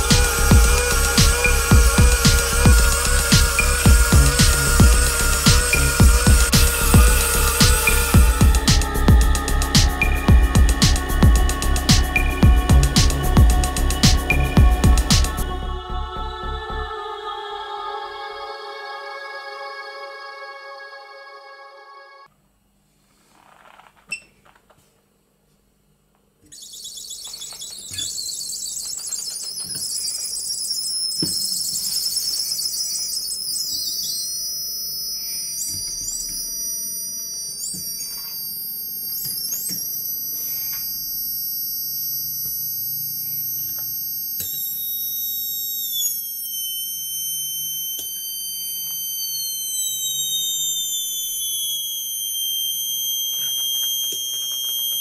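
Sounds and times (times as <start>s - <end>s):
high-pitched electronic whine: 0.0s - 22.3s, 26.5s - 55.0s.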